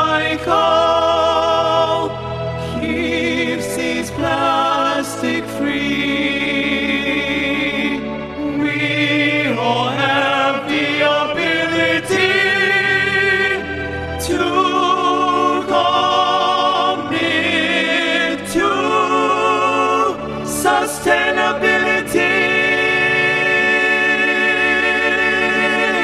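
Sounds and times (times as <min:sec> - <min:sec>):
male vocal group singing in harmony: 0:00.0 - 0:26.0.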